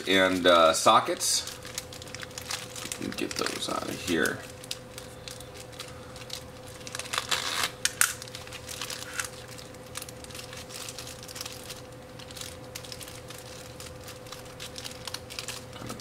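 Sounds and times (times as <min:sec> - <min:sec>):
faint steady hum: 0:00.0 - 0:16.0
plastic bag crinkling: 0:00.0 - 0:16.0.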